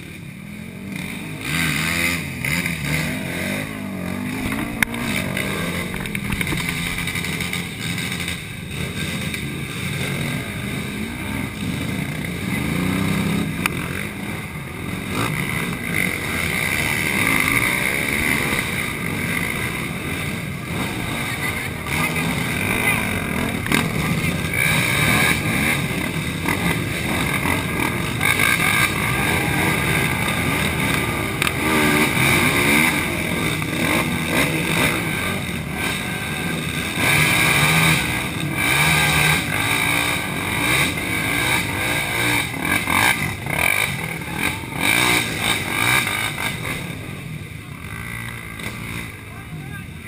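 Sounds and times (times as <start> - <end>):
quad engines revving: 0.0 - 50.0.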